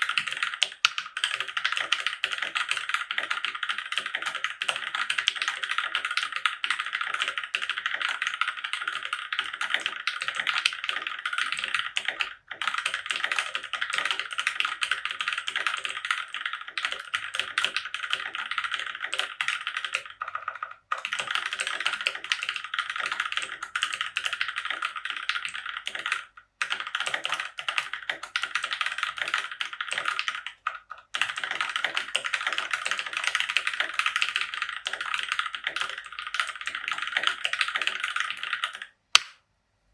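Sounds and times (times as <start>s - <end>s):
fast typing on mechanical keyboard: 0.0s - 39.0s.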